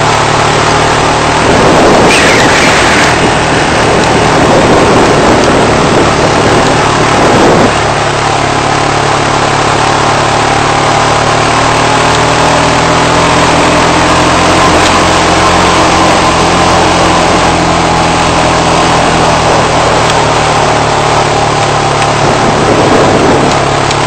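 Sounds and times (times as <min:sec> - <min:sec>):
quad engine running: 0:00.0 - 0:24.0
wind rushing over microphone: 0:00.0 - 0:24.0.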